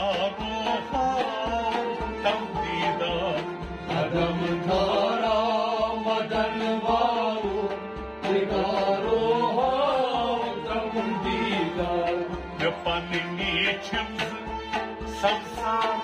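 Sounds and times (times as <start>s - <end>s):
harmonium chords: 0.0s - 16.0s
low drum beat: 0.0s - 16.0s
man singing: 0.0s - 16.0s.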